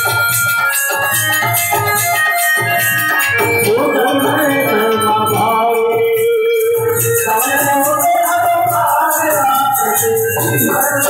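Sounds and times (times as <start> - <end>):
harmonium melody: 0.0 - 11.0
jingling metal percussion: 0.0 - 11.0
steady hand drum beat: 0.0 - 11.0.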